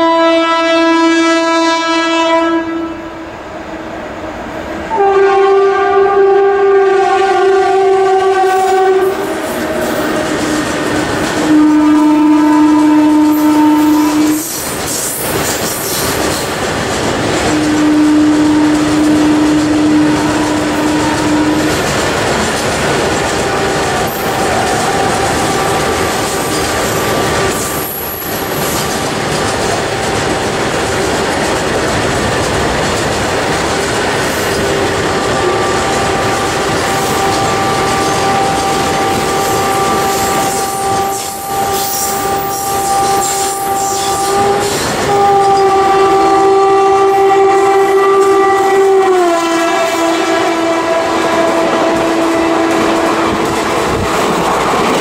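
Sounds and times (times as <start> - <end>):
locomotive horn blasts: 0.0 - 3.3, 4.9 - 14.6, 17.4 - 30.7, 34.4 - 54.2
train rumble and clickety-clack: 0.0 - 55.0.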